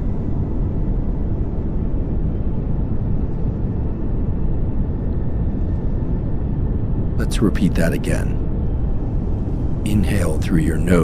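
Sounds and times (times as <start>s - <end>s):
steady pink noise hiss: 0.0s - 11.0s.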